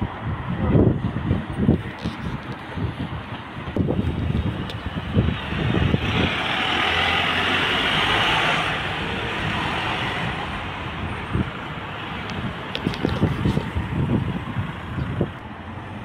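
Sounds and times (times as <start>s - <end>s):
wind rumble on microphone: 0.0s - 16.0s
bus driving past: 2.7s - 16.0s.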